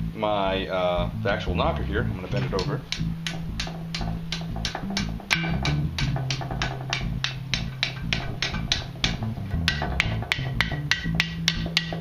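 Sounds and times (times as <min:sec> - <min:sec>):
music with guitar and bass: 0:00.0 - 0:12.0
hammer striking hot iron: 0:02.3 - 0:12.0.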